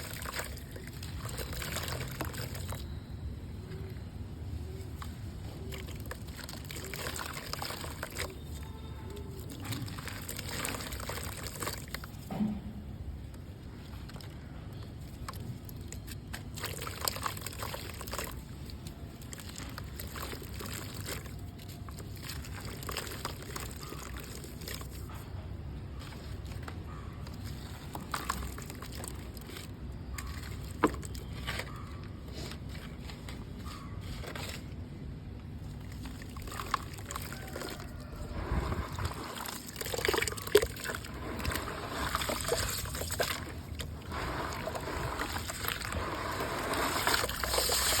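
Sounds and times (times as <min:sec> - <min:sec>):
mud crumbling in water: 0:00.0 - 0:03.0, 0:04.7 - 0:48.0.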